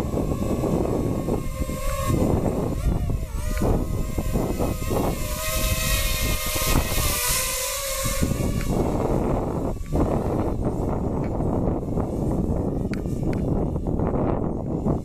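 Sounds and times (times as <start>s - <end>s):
drone propellers buzzing: 0.0s - 15.0s
gusty low rumble: 0.0s - 15.0s.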